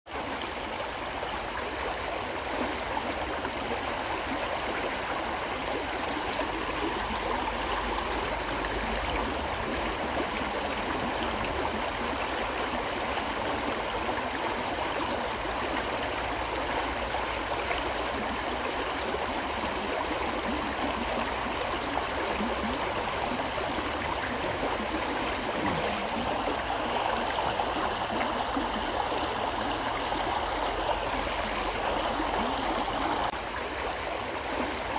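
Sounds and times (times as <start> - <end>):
river flowing: 0.1 - 34.9.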